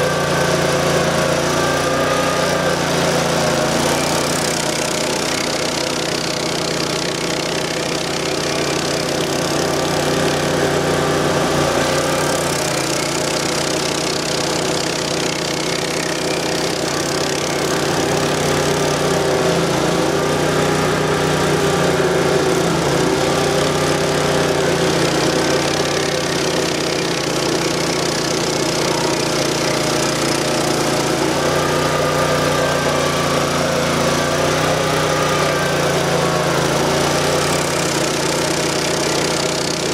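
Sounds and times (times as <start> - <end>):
cutter wheel grinding wood: 0.0 - 39.9
gas engine running under load: 0.0 - 39.9.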